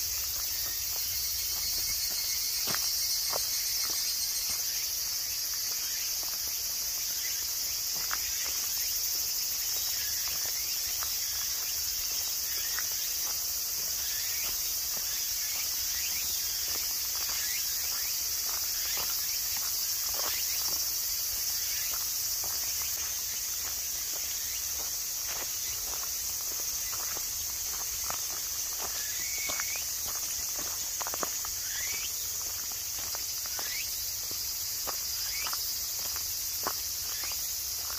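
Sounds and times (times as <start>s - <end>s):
footsteps on gravel: 0.0s - 37.9s
insects singing: 0.0s - 37.9s.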